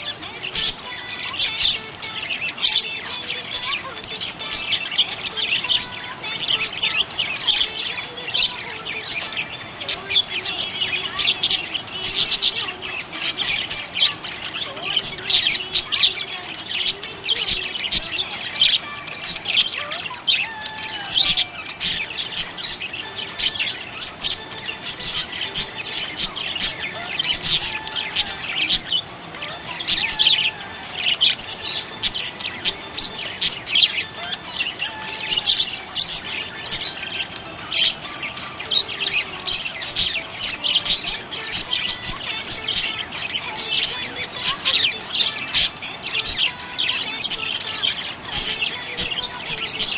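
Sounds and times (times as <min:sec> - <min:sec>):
budgies chirping: 0:00.0 - 0:49.9.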